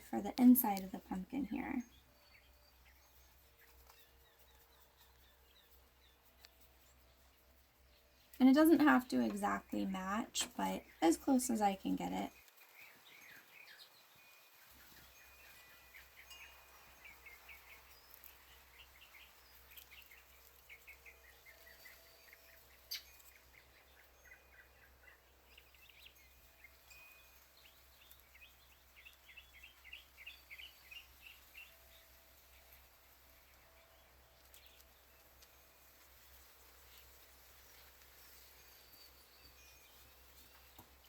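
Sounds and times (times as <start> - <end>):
low steady hum: 0.0 - 41.0
small birds chirping: 0.0 - 41.0.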